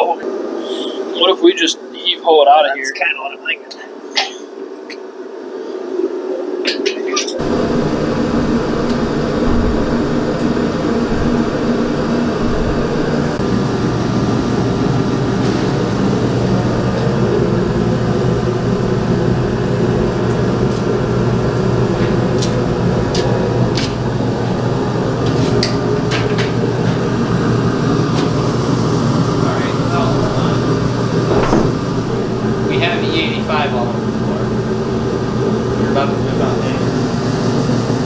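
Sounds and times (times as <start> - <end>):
mechanical drone: 7.4 - 38.0.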